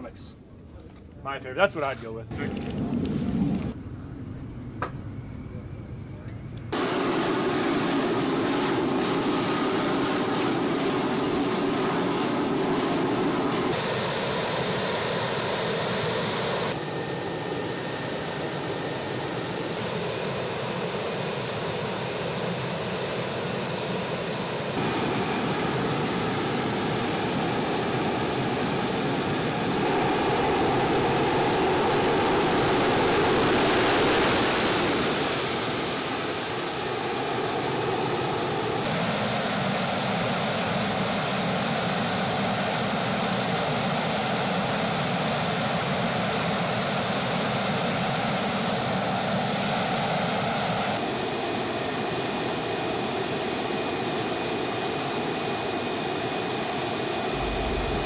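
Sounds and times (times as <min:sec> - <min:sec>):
jet engines running: 0:06.7 - 0:58.0.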